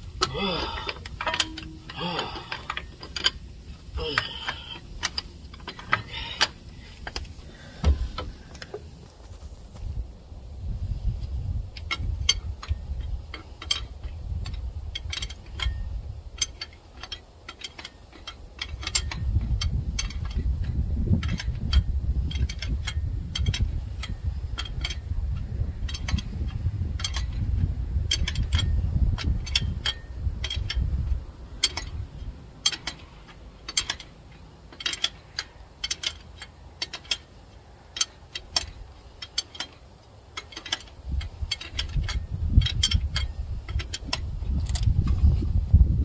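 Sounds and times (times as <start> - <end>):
ratchet wrench clicking: 0.0 - 7.4, 11.8 - 45.3.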